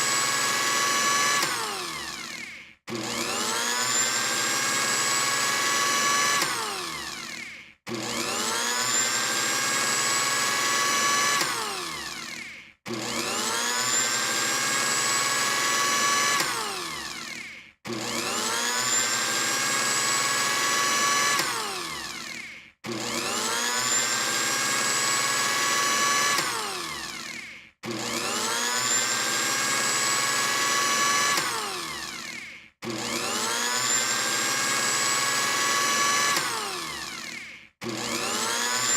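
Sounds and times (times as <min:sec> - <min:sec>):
blender motor whining: 0:00.0 - 0:38.9.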